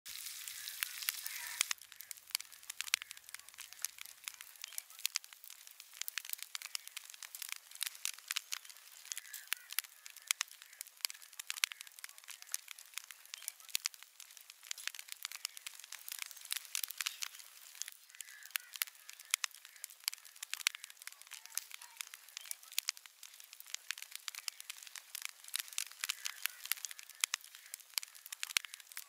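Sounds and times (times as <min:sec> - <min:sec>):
fire hissing: 0:00.1 - 0:29.0
wood fire crackling and snapping: 0:00.1 - 0:29.0.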